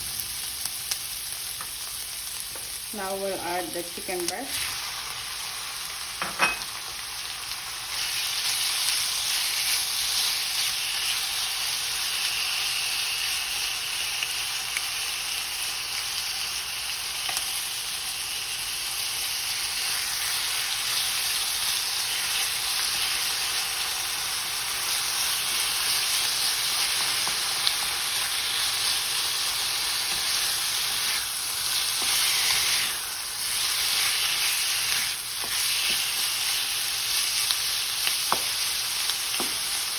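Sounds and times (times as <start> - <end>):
chicken frying in oil: 2.0 - 39.9.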